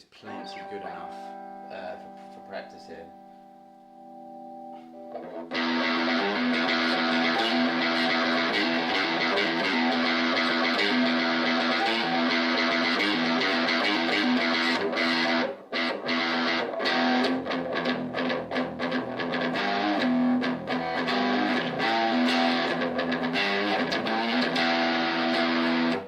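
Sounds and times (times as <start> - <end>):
electric guitar strummed chords: 0.2 - 26.0.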